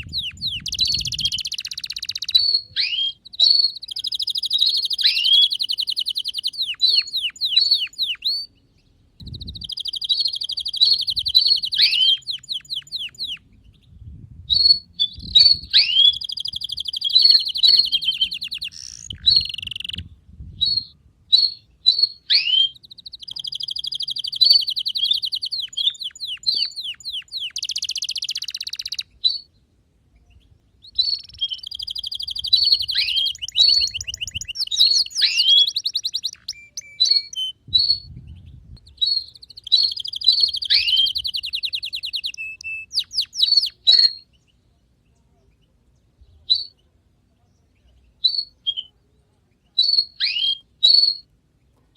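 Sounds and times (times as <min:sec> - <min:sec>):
canary singing trills: 0:00.0 - 0:29.6, 0:30.2 - 0:44.7, 0:45.4 - 0:51.4.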